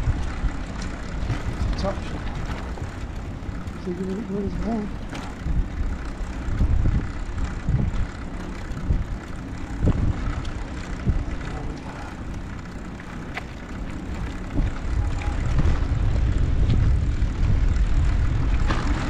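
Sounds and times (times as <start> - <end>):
tyres rolling on tarmac: 0.0 - 19.0
wind rumbling on microphone: 0.0 - 19.0.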